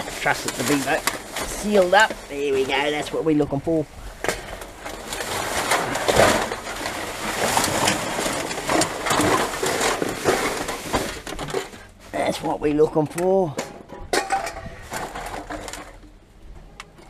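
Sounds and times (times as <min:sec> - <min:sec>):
plastic bags rustling: 0:00.0 - 0:13.4, 0:14.1 - 0:16.2
crackles and clicks: 0:00.0 - 0:17.0.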